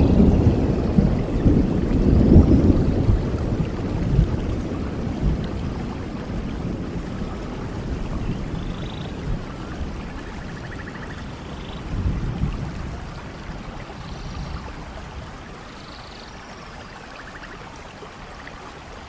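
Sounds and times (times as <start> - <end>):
rolling thunder: 0.0 - 15.4
steady rain: 0.0 - 19.0.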